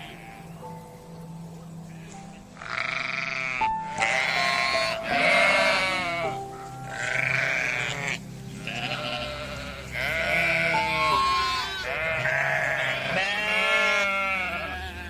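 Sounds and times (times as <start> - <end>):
background music with sustained notes: 0.0 - 15.0
sheep bleating: 1.9 - 15.0.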